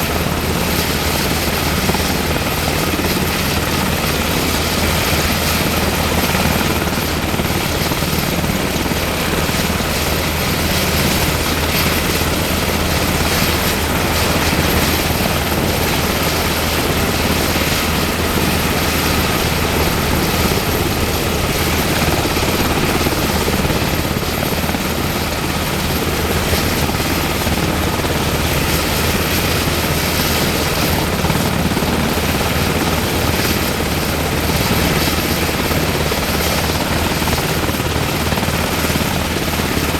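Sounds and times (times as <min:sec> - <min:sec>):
helicopter rotor hum: 0:00.0 - 0:39.9.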